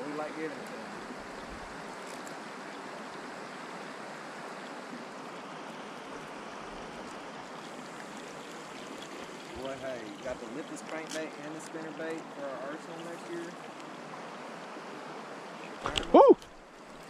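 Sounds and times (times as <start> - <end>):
wind and water hiss: 0.0 - 17.0.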